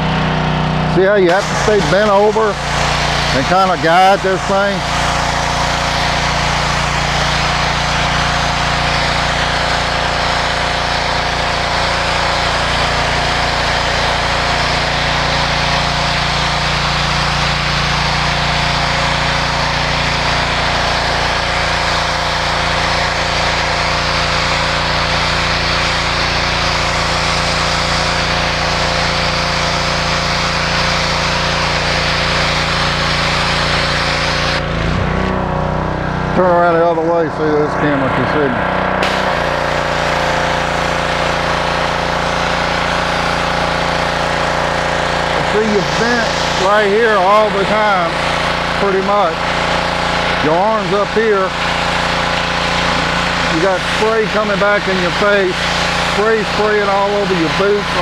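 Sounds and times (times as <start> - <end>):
high-pressure water jet hissing: 0.0 - 35.2, 36.4 - 58.0
pressure washer engine hum: 0.0 - 58.0.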